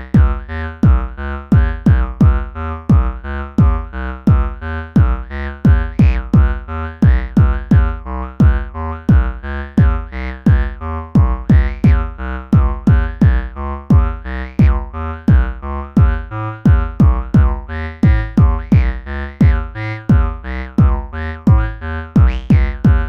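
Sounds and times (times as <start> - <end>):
drum machine beat: 0.0 - 23.0
looping synth notes: 0.0 - 23.0.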